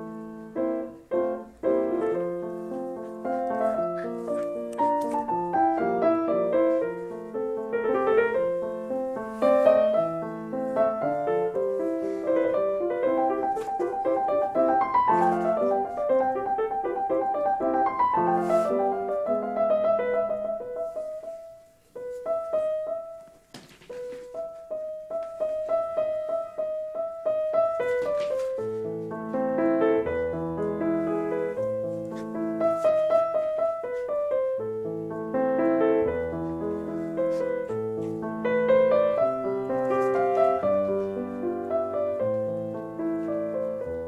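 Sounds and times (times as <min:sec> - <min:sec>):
piano music: 0:00.0 - 0:44.0.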